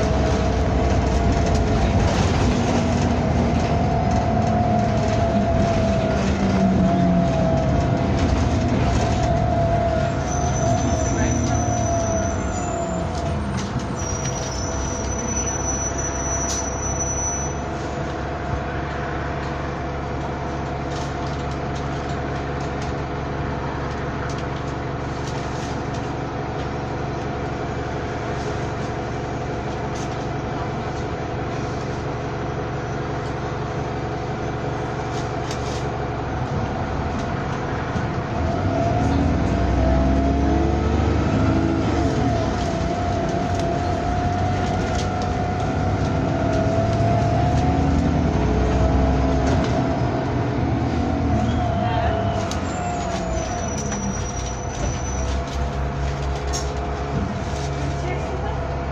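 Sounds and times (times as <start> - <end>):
bus engine whining hum: 0.0 - 58.9.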